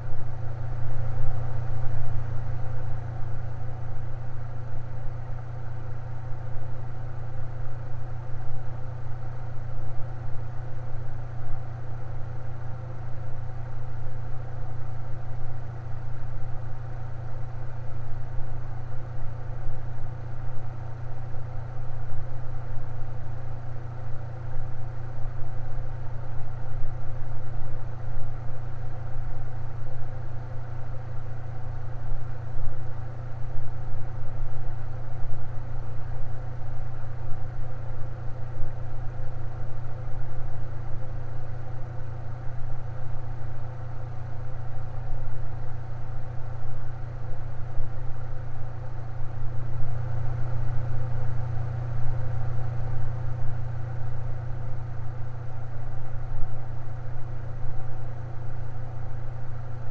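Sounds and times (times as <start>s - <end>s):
electric fan humming: 8.9s - 59.9s.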